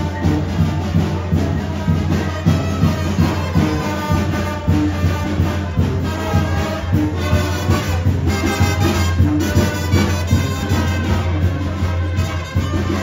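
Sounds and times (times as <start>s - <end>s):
brass music over a beat: 0.0s - 13.0s.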